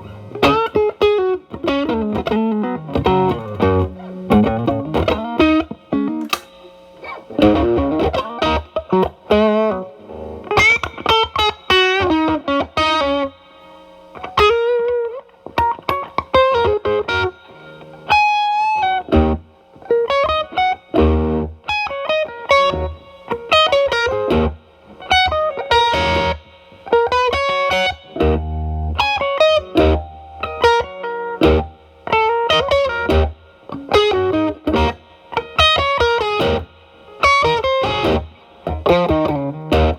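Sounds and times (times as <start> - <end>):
distorted electric guitar blues lines: 0.0 - 39.9.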